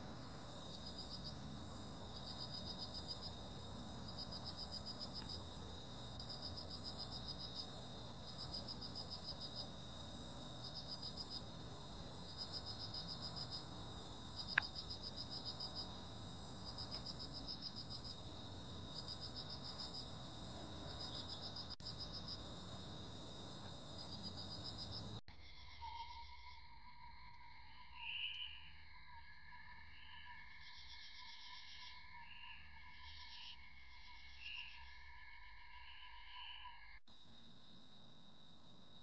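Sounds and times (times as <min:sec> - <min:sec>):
cricket chirping pulses: 0:00.0 - 0:39.0.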